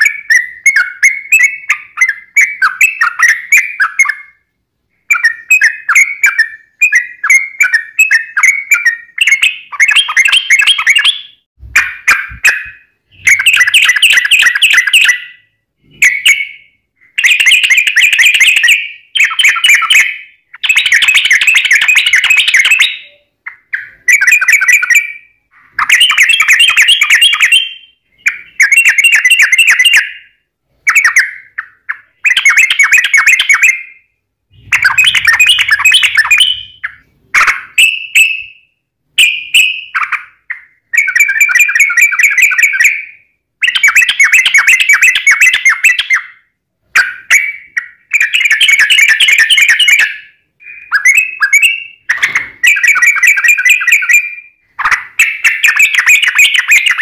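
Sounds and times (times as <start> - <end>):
bird singing warbled phrases: 0.0 - 57.0.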